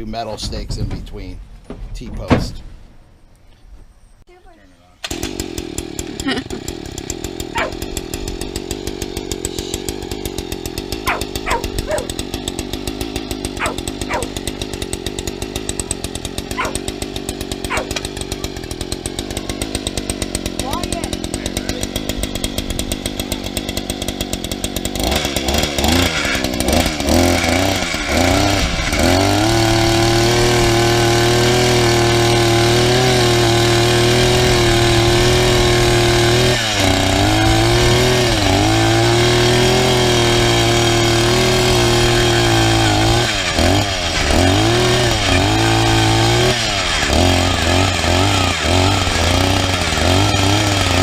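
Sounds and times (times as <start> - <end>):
auger engine revving: 5.0 - 51.0.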